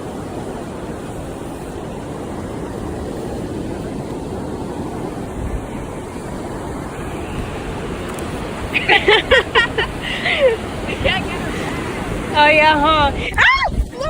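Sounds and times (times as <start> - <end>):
surf on a beach: 0.0 - 14.0
wind: 0.0 - 14.0.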